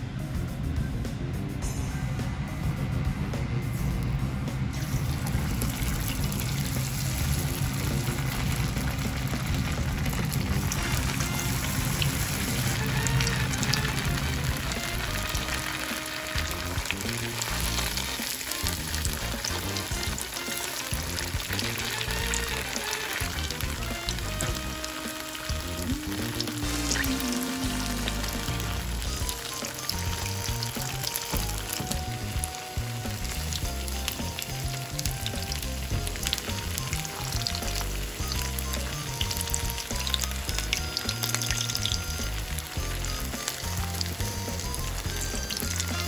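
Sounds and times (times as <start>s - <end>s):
background music with held notes: 0.0s - 46.0s
tofu sizzling in hot oil: 4.8s - 46.0s.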